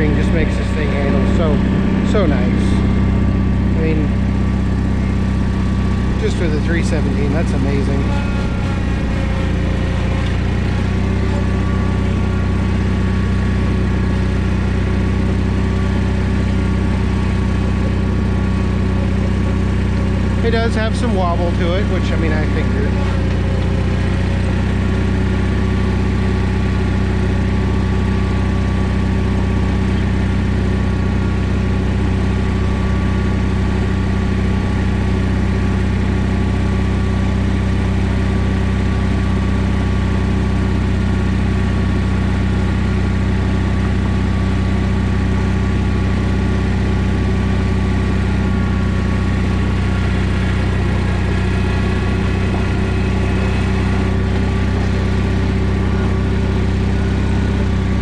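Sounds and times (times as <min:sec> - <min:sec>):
garden tractor engine droning: 0:00.0 - 0:58.0.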